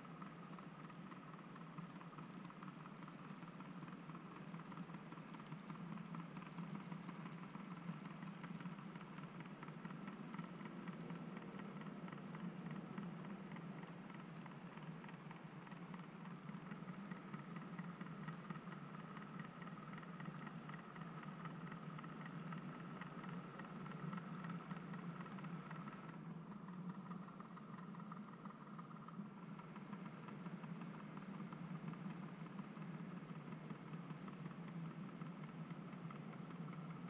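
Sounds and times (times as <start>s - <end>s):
faint rapid clicking: 0.0s - 37.0s
model train humming: 0.0s - 37.0s.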